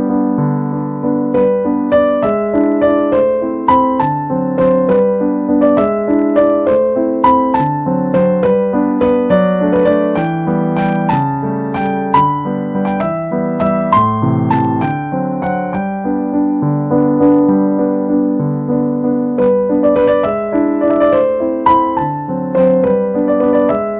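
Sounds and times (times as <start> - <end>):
gentle piano music: 0.0 - 23.9.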